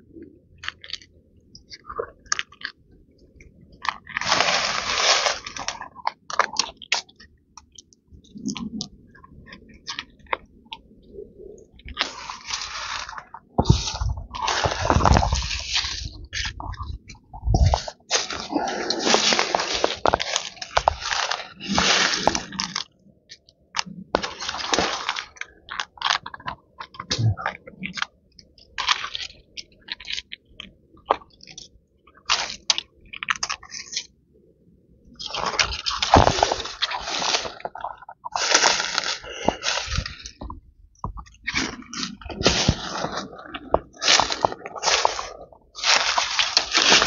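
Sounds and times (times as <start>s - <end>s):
crunching and rustling dry material: 0.0s - 34.2s, 35.0s - 47.0s.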